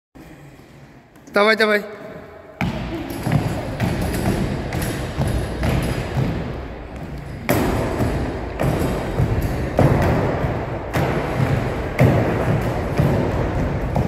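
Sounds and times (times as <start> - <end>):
people landing on wooden benches: 2.6 - 14.0.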